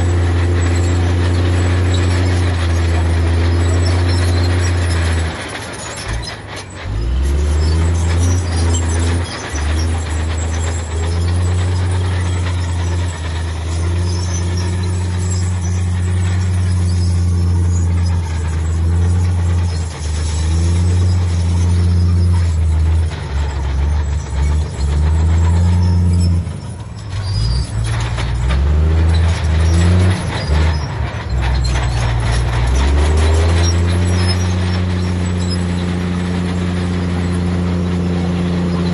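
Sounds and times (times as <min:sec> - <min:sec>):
heavy diesel engine revving: 0:00.0 - 0:38.9.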